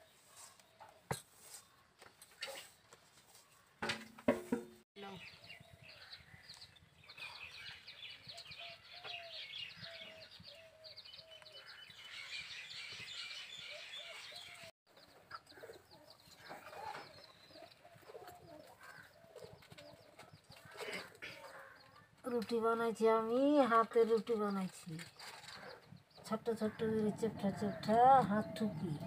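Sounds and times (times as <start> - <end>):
birds chirping and twittering: 4.7 - 29.0.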